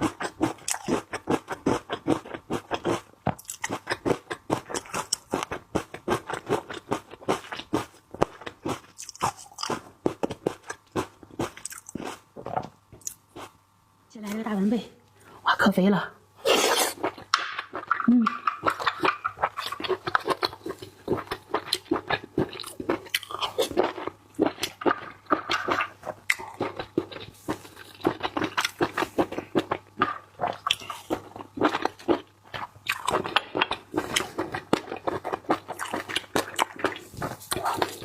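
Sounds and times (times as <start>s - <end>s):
chewing and crunching food: 0.0s - 13.6s, 16.5s - 38.0s.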